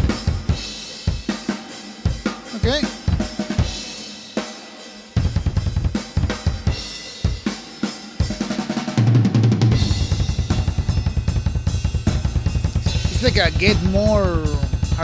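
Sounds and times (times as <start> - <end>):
rapid bass drum pattern: 0.0 - 4.2, 5.2 - 15.0
snare and cymbal hits: 0.0 - 15.0.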